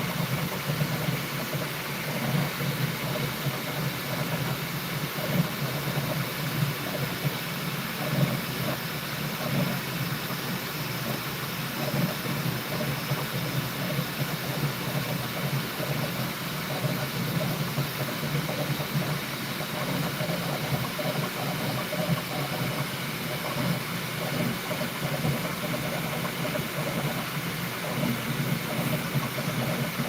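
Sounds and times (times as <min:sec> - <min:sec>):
printer fans and motors whirring: 0:00.0 - 0:30.0.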